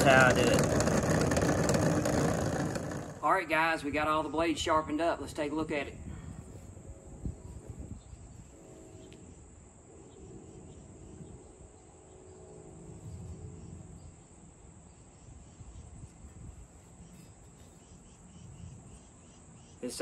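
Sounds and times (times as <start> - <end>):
crickets droning: 0.0 - 20.0.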